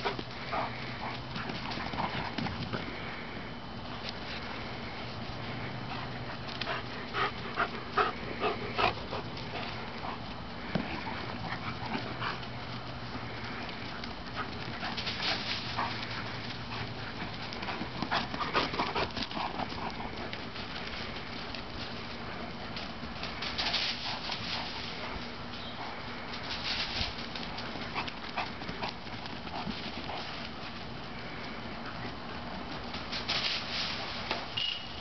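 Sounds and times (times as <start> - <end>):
dogs panting: 0.0 - 33.3.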